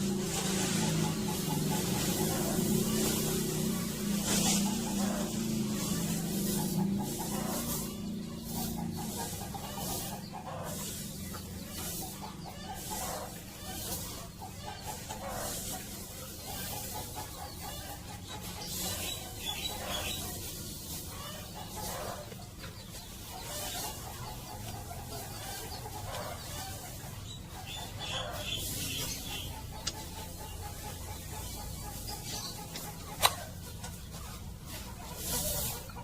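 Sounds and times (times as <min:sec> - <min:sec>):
chickens clucking: 0:00.0 - 0:36.0
rustling or scraping noises: 0:00.0 - 0:36.0.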